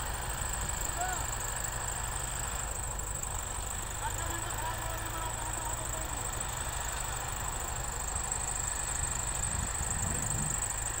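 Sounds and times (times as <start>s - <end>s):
distant diesel engines rumbling: 0.0s - 11.0s
steady high-pitched hiss: 0.0s - 11.0s.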